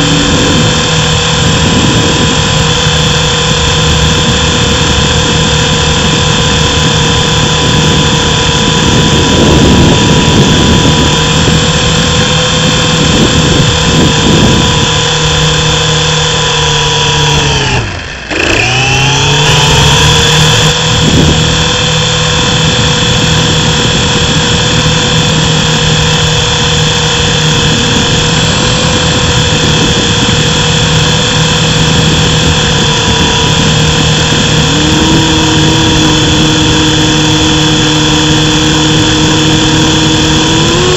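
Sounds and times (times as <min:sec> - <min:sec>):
helicopter motor and rotor whining: 0:00.0 - 0:40.9.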